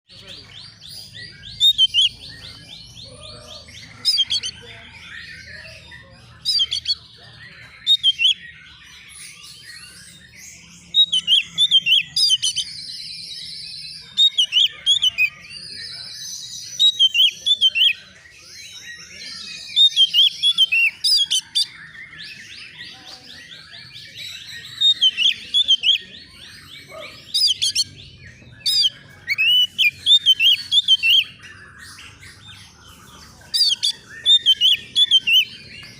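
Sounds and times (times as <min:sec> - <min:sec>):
bird chattering: 0:00.2 - 0:35.9
bird whistling song: 0:00.2 - 0:35.9.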